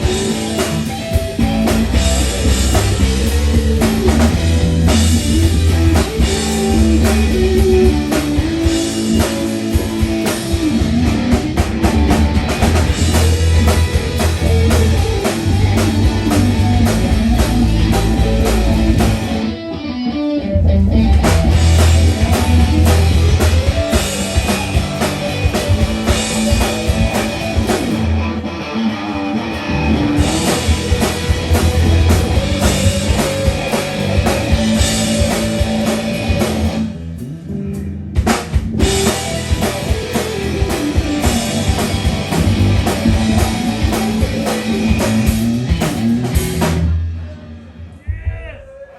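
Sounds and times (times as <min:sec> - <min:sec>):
drum kit: 0:00.0 - 0:19.6, 0:20.8 - 0:47.3
electric guitar: 0:00.0 - 0:47.3
bass: 0:00.0 - 0:48.7.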